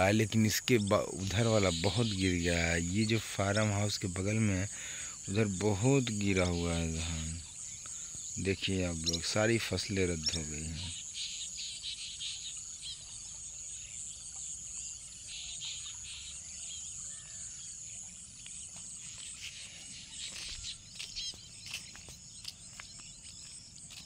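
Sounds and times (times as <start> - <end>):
bird chirps: 0.0 - 24.0
insects trilling: 0.0 - 24.0.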